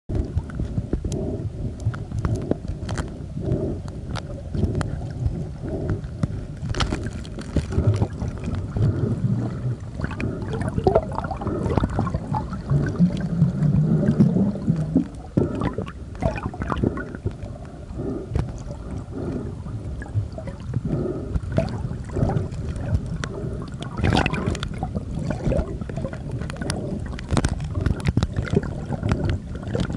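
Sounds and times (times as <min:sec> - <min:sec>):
muffled underwater bubbles gurgling: 0:00.1 - 0:29.9.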